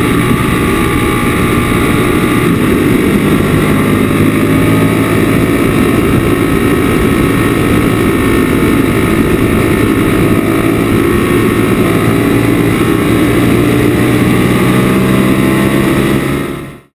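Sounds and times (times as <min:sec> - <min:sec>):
motorcycle engine at high revs: 0:00.0 - 0:16.9.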